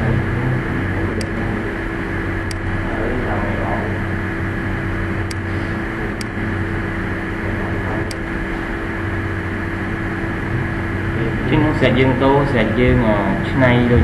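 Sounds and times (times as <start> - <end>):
room noise hum and hiss: 0.0 - 14.0.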